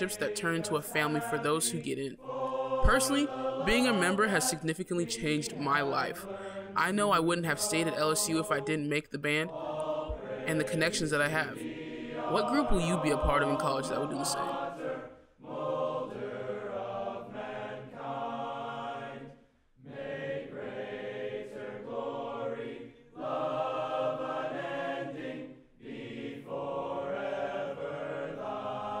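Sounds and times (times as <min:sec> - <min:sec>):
choir singing slowly: 0:00.0 - 0:29.0.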